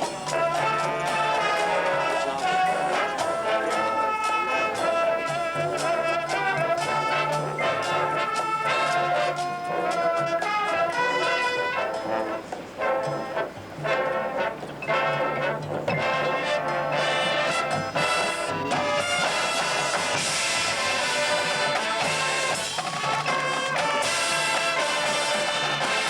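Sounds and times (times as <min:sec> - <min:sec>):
drums striking: 0:00.0 - 0:14.0, 0:14.6 - 0:26.0
brass playing loud chords: 0:00.0 - 0:26.0.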